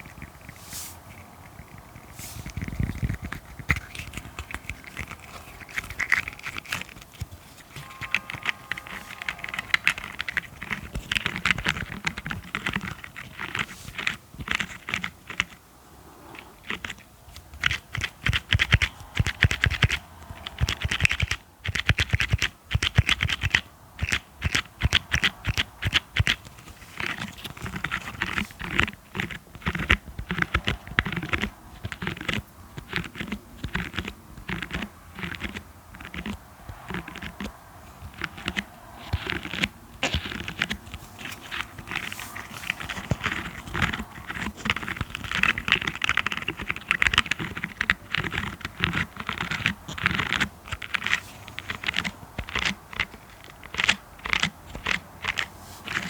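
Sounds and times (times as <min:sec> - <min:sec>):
scratching: 0:00.0 - 0:56.0.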